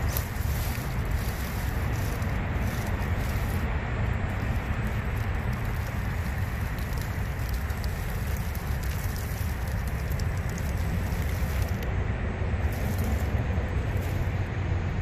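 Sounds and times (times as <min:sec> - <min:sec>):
crackling of crushed leaves and twigs: 0:00.0 - 0:15.0
wind rumble on microphone: 0:00.0 - 0:15.0.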